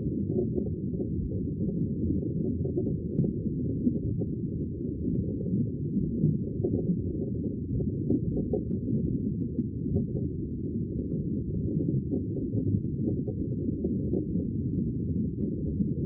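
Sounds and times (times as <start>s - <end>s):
deep muffled rumble of sea water: 0.0s - 16.0s.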